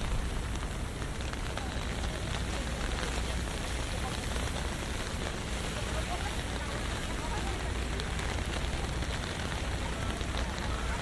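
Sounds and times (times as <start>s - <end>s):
low city rumble: 0.0s - 11.0s
raindrops tapping on umbrella: 0.0s - 11.0s
steady rain: 0.0s - 11.0s.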